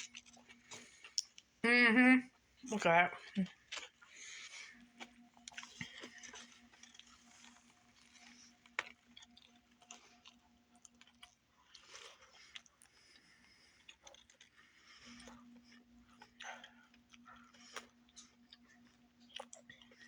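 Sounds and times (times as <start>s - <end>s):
person chewing: 0.0s - 1.5s, 3.5s - 20.0s
faint steady hum: 0.0s - 20.0s.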